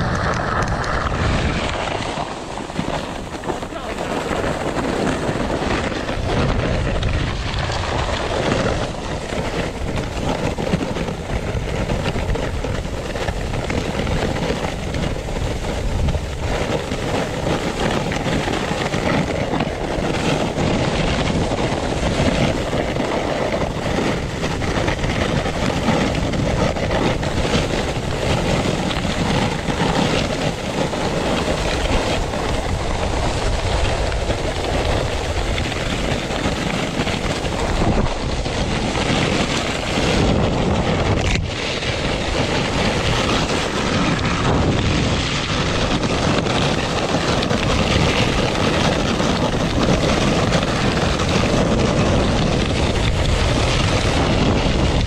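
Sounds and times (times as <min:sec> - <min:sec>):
low rumble: 0:00.0 - 0:55.0
skis scraping on icy snow: 0:00.0 - 0:55.0.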